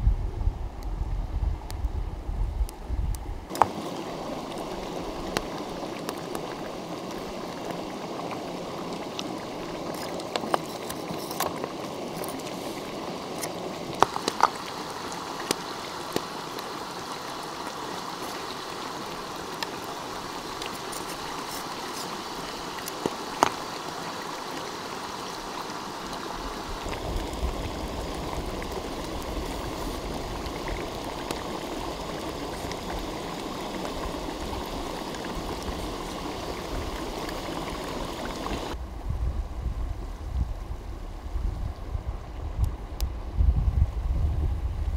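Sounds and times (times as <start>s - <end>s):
shallow stream running: 2.7s - 44.9s.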